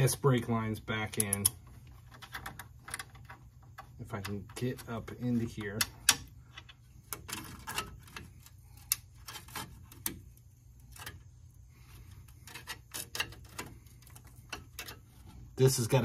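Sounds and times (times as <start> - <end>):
steady low hum: 0.0 - 16.0
light clicks and metallic taps: 1.0 - 11.4, 12.2 - 15.4.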